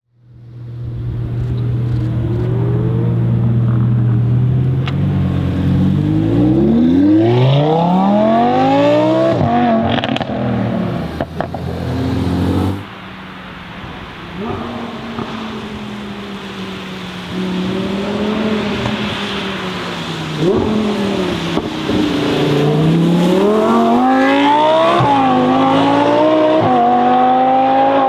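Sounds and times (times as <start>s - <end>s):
car engine revving: 0.1s - 28.0s
exhaust cracks: 0.2s - 25.9s.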